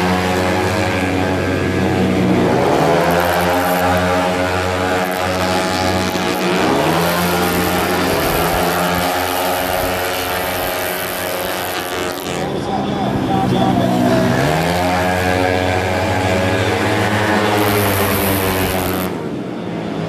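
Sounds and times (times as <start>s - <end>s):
scooter engines revving: 0.0s - 20.0s.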